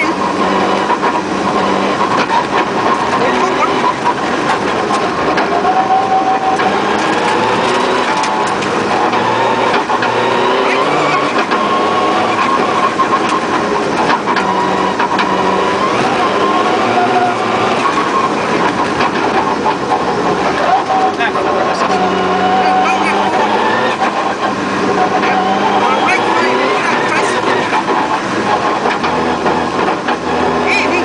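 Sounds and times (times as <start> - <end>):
car knocks and clatters: 0.0 - 31.0
rally car engine revving: 0.0 - 31.0.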